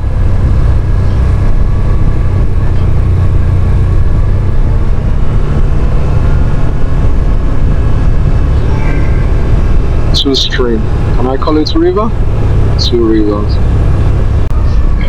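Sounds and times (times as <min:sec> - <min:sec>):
quad bike engine rumbling: 0:00.0 - 0:15.0
road noise: 0:00.0 - 0:15.0.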